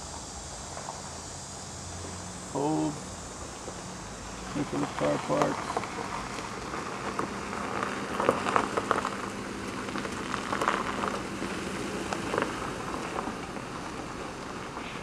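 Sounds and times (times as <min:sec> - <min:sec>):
faint low engine hum: 0:00.0 - 0:15.0
tyres crunching on gravel: 0:00.0 - 0:15.0.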